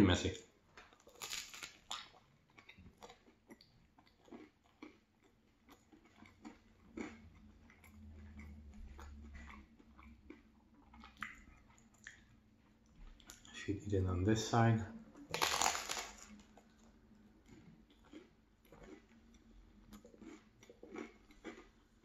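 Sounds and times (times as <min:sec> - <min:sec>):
mouth clicks and smacks chewing: 0:00.9 - 0:13.6, 0:16.6 - 0:21.7.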